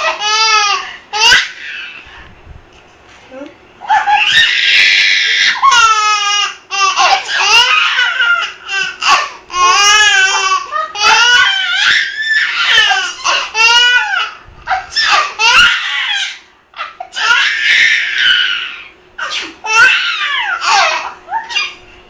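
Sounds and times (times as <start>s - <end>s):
baby squealing: 3.9s - 21.8s.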